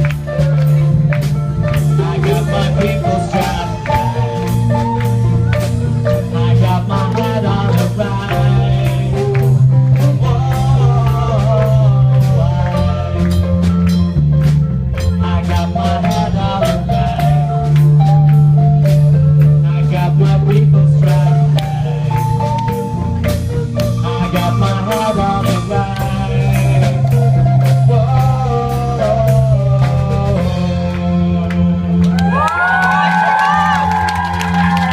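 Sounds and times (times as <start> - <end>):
drum kit beat: 0.0 - 34.9
rock band playing: 0.0 - 34.9.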